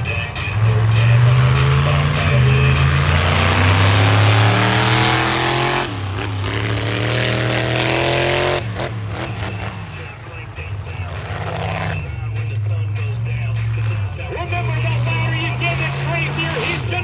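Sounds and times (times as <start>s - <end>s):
racing engine accelerating: 0.0s - 17.0s.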